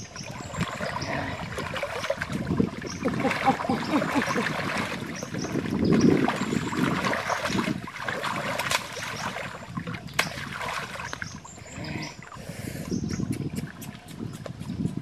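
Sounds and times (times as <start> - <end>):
water splashing from wading: 0.0 - 14.3.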